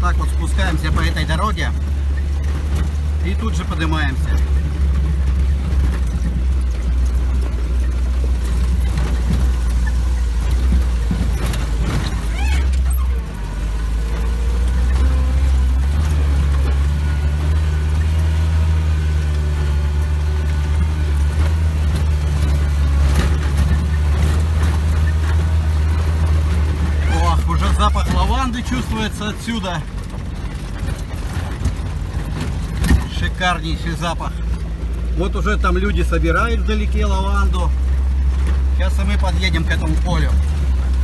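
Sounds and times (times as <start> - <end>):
vehicle engine running under load: 0.0 - 41.0.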